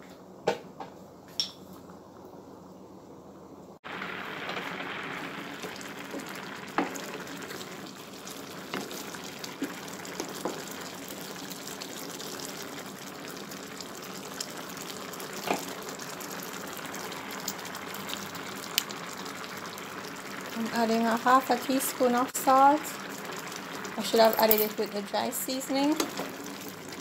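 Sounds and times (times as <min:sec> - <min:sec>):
beans bubbling in a pan: 0:03.8 - 0:27.0.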